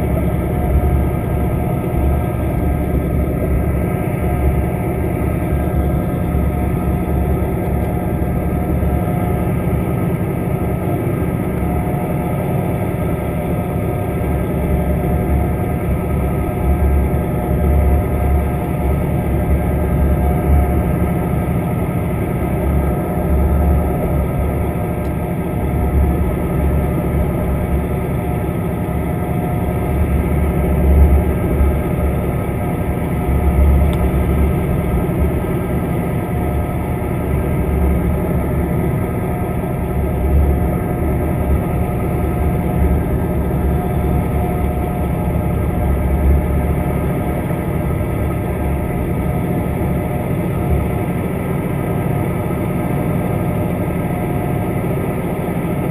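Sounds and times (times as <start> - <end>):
engine hum underwater: 0.0 - 55.9.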